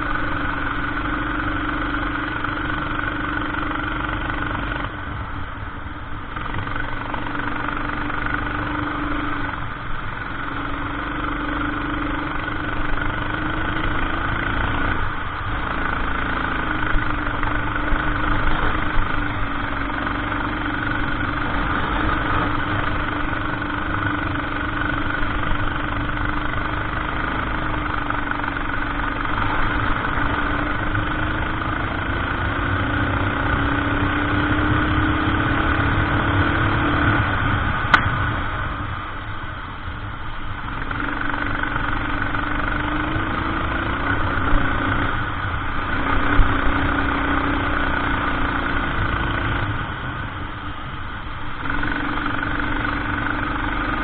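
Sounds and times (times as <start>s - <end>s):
go-kart engine revving: 0.0s - 5.1s, 6.3s - 38.9s, 40.5s - 54.0s.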